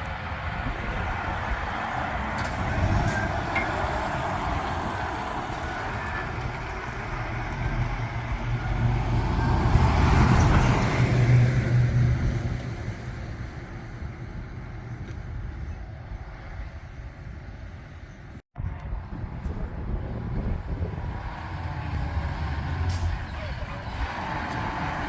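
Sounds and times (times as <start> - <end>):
truck diesel engine passing: 0.0 - 25.0.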